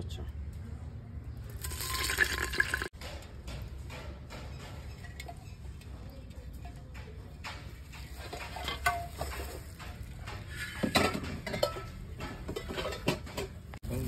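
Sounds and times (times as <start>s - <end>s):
clay pots knocking and scraping: 1.6s - 13.9s.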